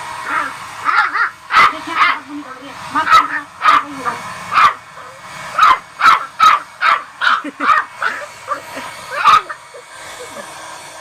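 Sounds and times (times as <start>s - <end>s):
puppy barking and yipping: 0.2s - 2.4s, 3.0s - 9.8s.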